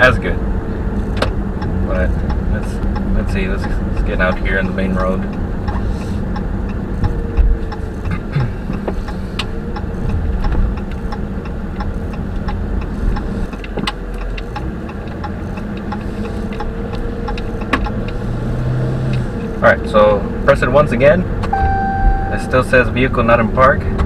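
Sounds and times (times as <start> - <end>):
low engine and road rumble: 0.0 - 24.0.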